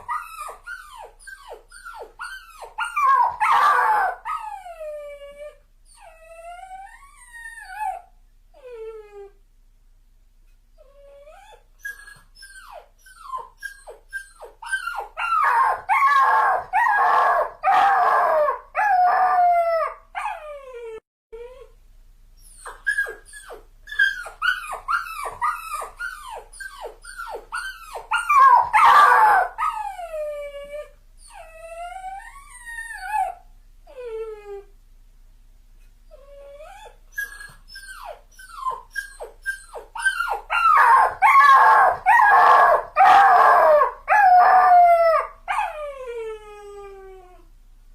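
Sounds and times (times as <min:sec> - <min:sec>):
dog whining and crying: 0:00.0 - 0:09.4, 0:10.8 - 0:21.8, 0:22.4 - 0:34.7, 0:36.1 - 0:47.5.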